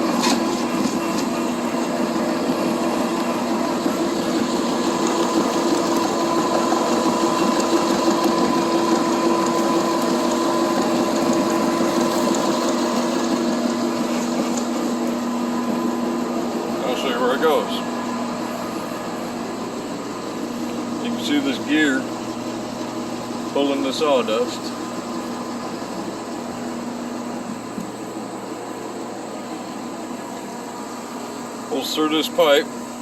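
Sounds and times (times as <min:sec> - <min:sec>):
electric gear motor humming: 0:00.0 - 0:33.0.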